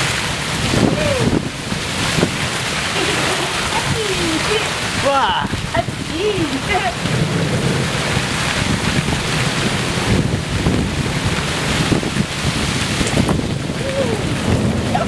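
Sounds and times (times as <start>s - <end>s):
rain pouring: 0.0s - 15.0s
wind rumbling on microphone: 0.0s - 15.0s.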